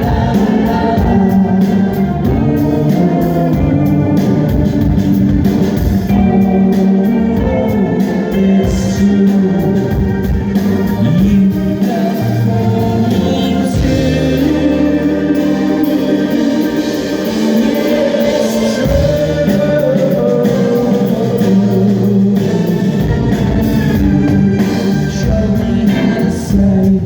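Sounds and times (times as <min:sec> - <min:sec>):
guitar: 0:00.0 - 0:27.0
organ-style keyboard: 0:00.0 - 0:27.0
person singing lead vocal: 0:00.0 - 0:27.0
steady drum beat: 0:00.0 - 0:27.0.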